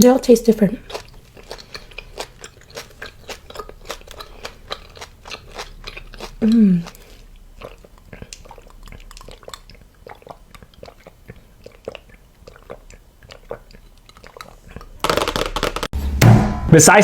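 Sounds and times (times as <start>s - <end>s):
person chewing food: 0.6s - 15.9s
mouth clicks: 0.8s - 15.8s.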